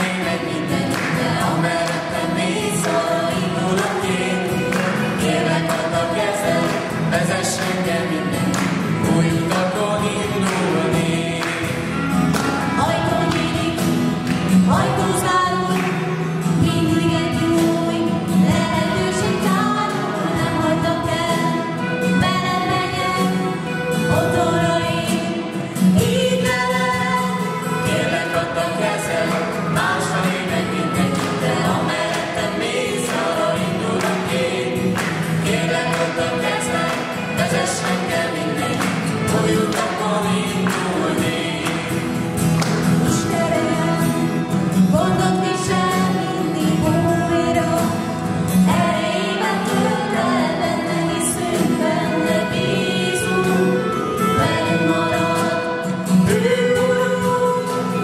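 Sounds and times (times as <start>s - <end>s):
acoustic guitar: 0.0s - 58.0s
bass guitar: 0.0s - 58.0s
voices singing in harmony: 0.0s - 58.0s.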